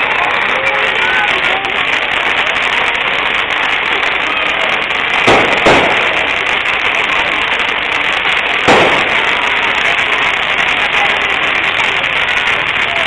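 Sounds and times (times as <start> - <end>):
ground fireworks hissing: 0.0 - 13.0
loud firework bangs: 0.0 - 13.0.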